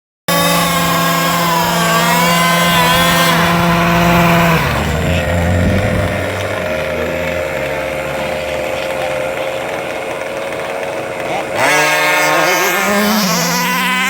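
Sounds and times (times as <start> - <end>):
small two-stroke engine running: 0.3 - 14.0.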